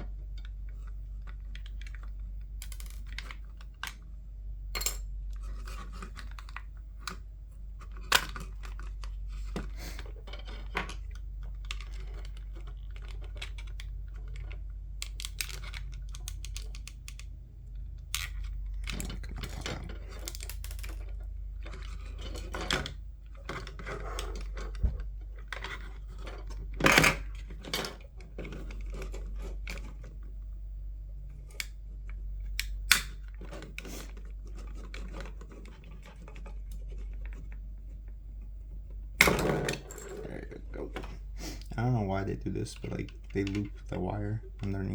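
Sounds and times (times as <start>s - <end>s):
plastic parts clicking and scraping: 0.0s - 4.1s, 4.8s - 44.9s
steady low hum: 0.0s - 44.9s.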